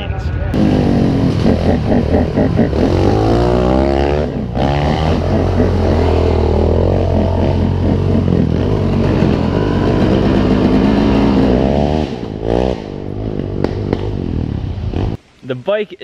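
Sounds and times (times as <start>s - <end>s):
dirt bike engine revving: 0.6s - 15.2s.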